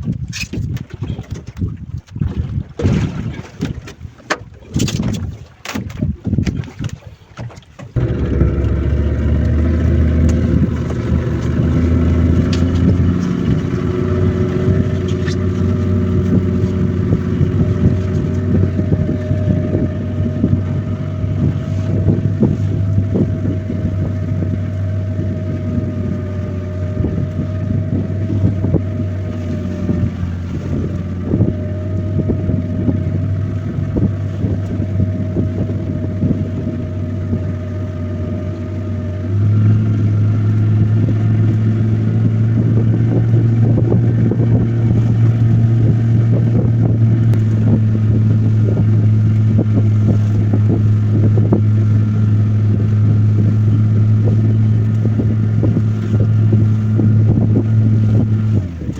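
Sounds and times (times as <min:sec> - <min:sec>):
boat motor running: 0:00.0 - 0:58.9.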